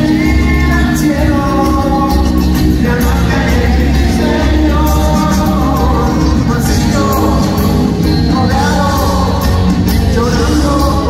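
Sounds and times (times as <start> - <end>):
live rock band: 0.0 - 11.0
man singing lead vocal: 0.0 - 11.0.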